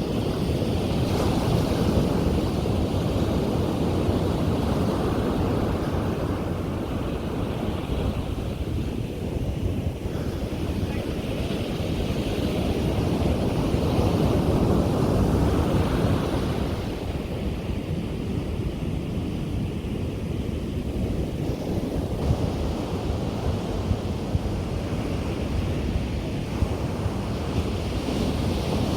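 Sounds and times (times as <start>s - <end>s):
sea waves breaking on beach: 0.0s - 28.9s
wind buffeting microphone: 0.0s - 28.9s.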